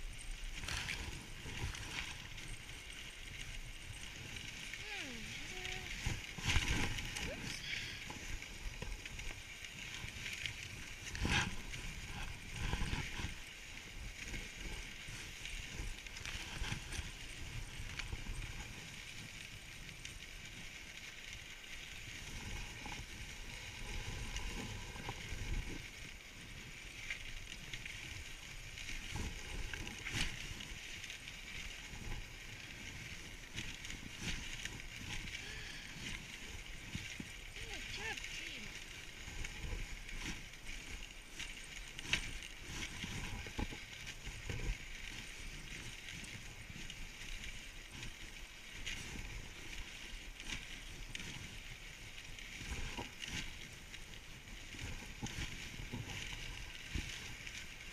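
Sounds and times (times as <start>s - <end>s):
sled runners hissing over snow: 0.0s - 57.9s.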